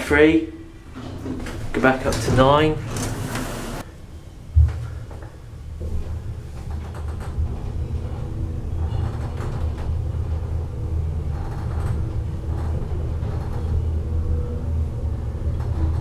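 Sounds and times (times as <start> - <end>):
lift car low rumble: 0.0 - 16.0.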